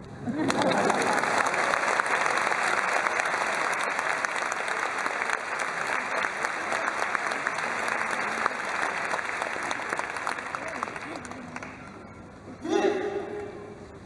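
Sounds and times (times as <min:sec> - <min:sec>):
audience applauding: 0:00.3 - 0:12.0.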